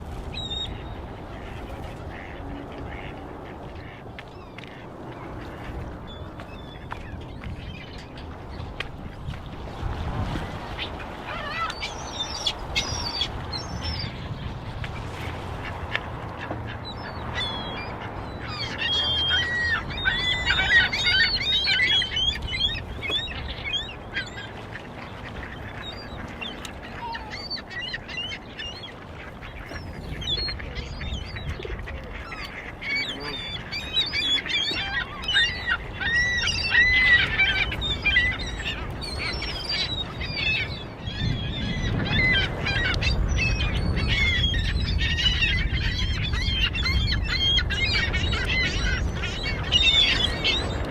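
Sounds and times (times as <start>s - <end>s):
waterbirds calling: 0.0s - 50.9s.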